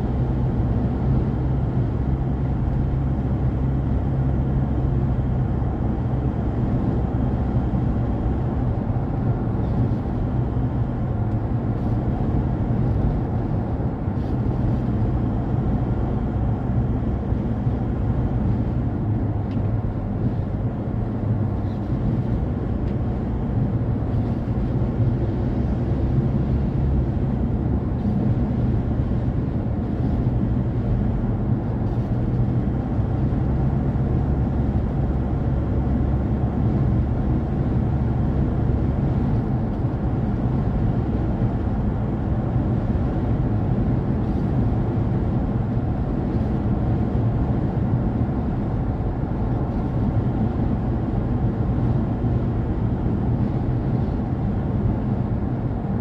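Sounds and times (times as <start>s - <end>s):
car driving at speed: 0.0s - 56.0s.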